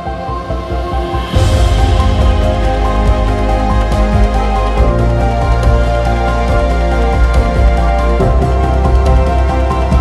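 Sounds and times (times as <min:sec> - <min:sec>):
instrumental music with deep bass: 0:00.0 - 0:10.0.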